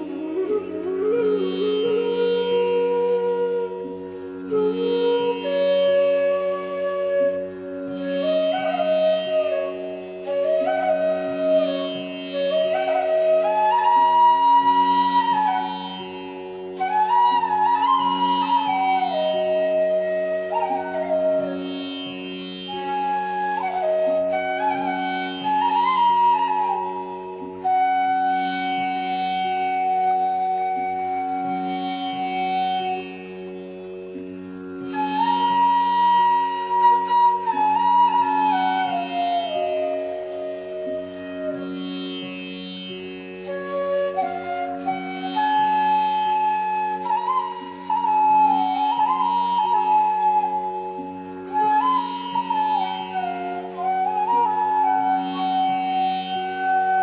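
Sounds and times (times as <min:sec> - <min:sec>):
melody with gliding ornaments: 0:00.0 - 0:57.0.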